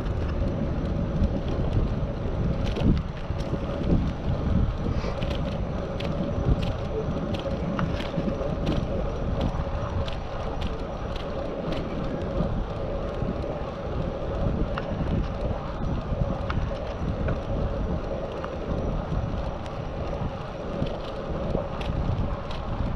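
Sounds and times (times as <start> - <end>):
light ticks: 0.0 - 22.8
low road rumble: 0.0 - 22.9
steady hum: 0.0 - 22.9
wind buffeting microphone: 0.0 - 22.9.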